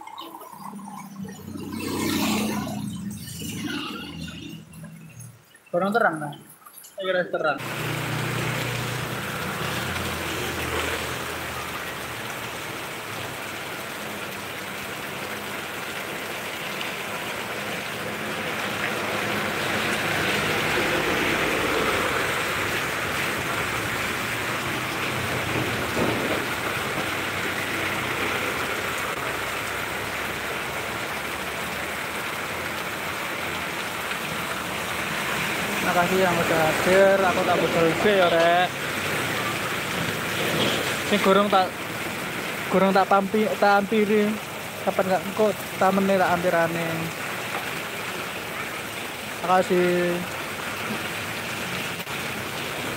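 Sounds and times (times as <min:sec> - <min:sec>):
rain on wet pavement: 0:07.6 - 0:52.9.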